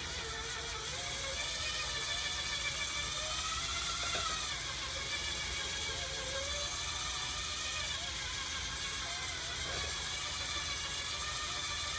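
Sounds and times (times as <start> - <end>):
electric mixer running: 0.0 - 11.9.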